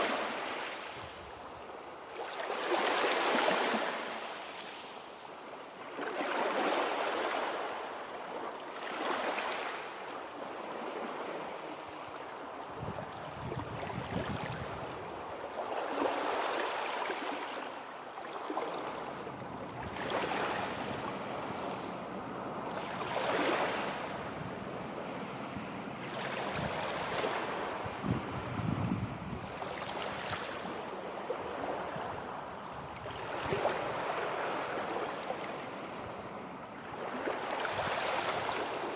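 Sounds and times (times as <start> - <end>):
waves breaking and washing in: 0.0 - 38.9.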